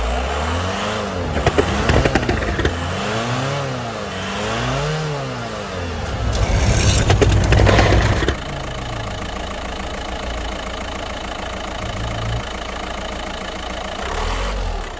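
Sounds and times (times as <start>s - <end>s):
engine revving with hiss and crackle: 0.0s - 14.9s
engine idling: 0.9s - 14.9s.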